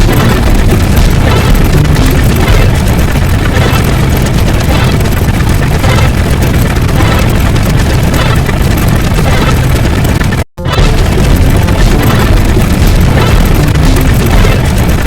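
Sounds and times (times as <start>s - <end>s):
layered sound effects: 0.0s - 15.0s.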